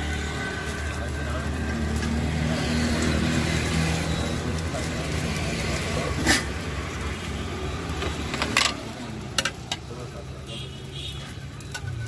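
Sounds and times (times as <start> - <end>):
gas burner rumble: 0.0 - 12.0
outdoor background noise: 0.0 - 12.0.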